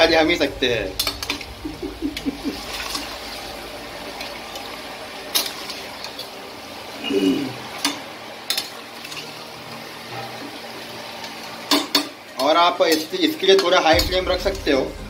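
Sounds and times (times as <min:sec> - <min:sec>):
chicken frying in a pan: 0:00.0 - 0:14.5.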